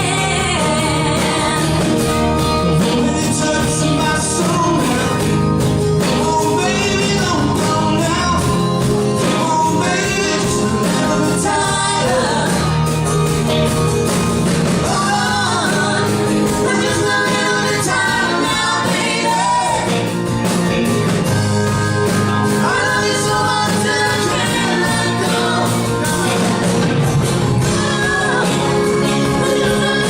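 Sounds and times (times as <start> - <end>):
person singing: 0.0 - 13.0, 14.8 - 20.1, 21.7 - 30.0
live rock band playing: 0.0 - 30.0.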